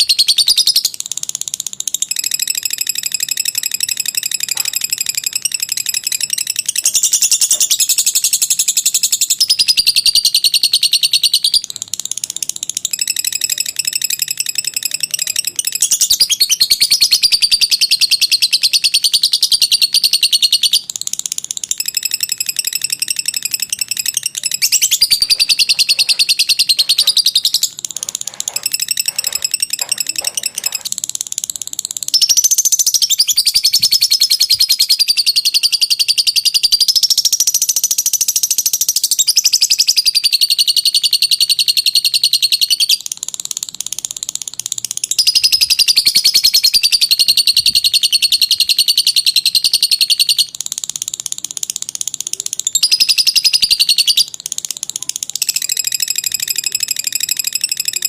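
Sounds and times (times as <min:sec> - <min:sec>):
lovebird buzzy trilling chatter: 0:00.0 - 0:58.0.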